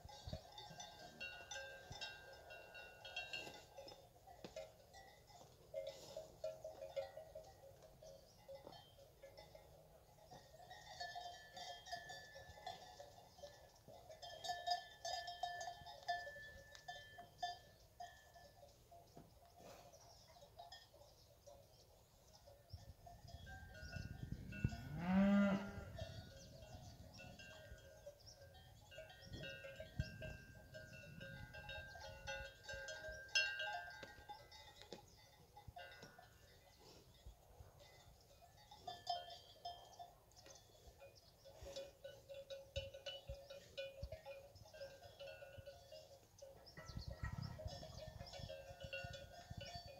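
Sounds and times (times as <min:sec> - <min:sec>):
cowbells clanking: 0:00.0 - 0:49.9.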